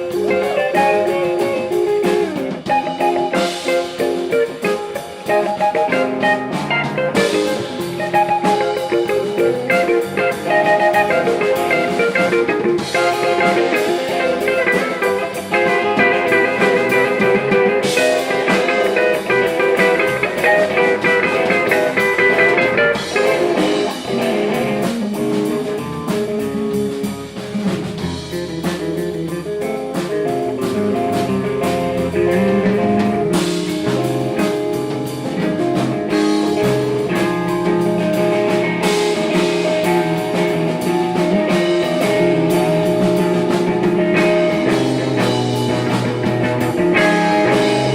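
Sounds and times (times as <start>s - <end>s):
guitar rock music with drums: 0.0s - 47.9s.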